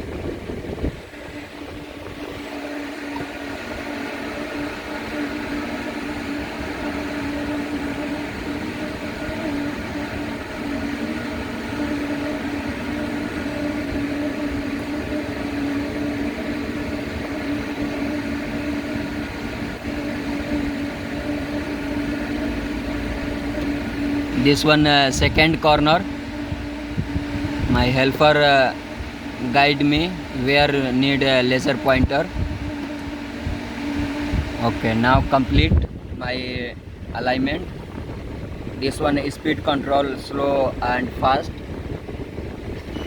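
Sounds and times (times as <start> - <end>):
machine hum with droning tone: 0.0 - 43.0.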